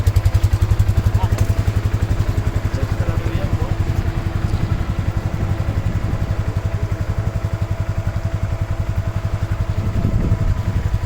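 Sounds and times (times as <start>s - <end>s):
quad bike engine puttering: 0.0s - 11.0s.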